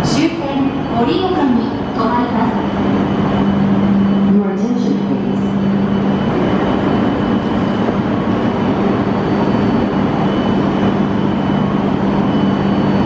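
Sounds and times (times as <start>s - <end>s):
constant rushing noise: 0.0s - 13.0s
high whine: 0.0s - 13.0s
train equipment low hum: 0.0s - 13.0s.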